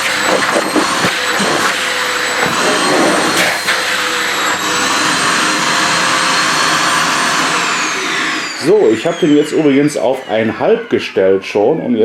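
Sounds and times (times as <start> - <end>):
vacuum nozzle scraping: 0.0 - 11.6
vacuum cleaner suction and motor whine: 0.0 - 12.0.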